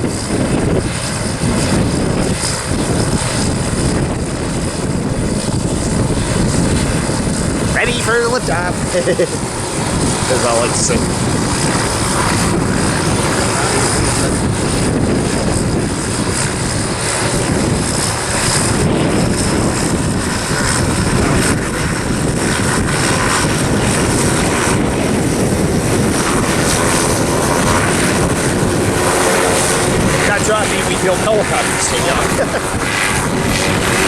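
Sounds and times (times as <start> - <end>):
helicopter rotor and turbine: 0.0 - 34.0
wind buffeting microphone: 0.0 - 34.0.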